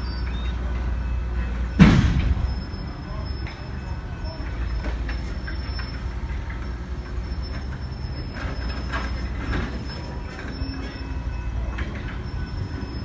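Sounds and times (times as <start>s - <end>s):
wheel squeal: 0.0s - 0.6s, 2.4s - 13.0s
clanks from train cars: 0.0s - 13.0s
train cars rumbling past: 0.0s - 13.0s.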